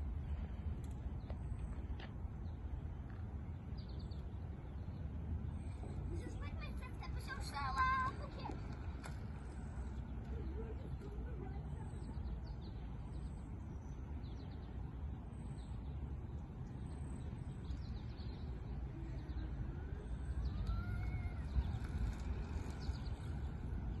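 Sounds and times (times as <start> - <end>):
steady low rumble: 0.0 - 24.0
birds chirping: 0.3 - 24.0.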